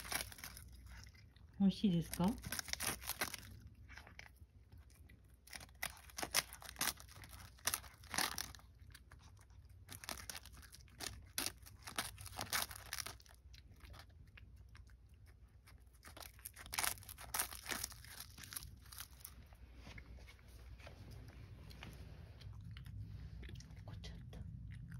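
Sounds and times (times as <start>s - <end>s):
cat crunching seaweed: 0.0s - 24.9s.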